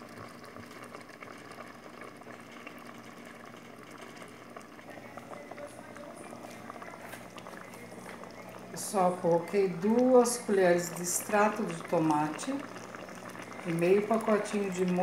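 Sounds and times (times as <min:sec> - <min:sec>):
pot boiling with bubbles popping: 0:00.0 - 0:15.0.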